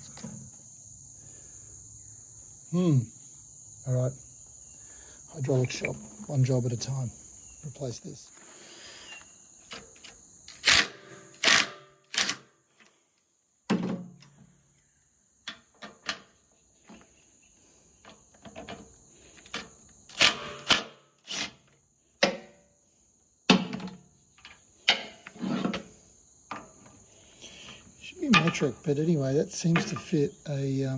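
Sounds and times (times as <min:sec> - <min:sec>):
high insect drone: 0:00.0 - 0:30.9.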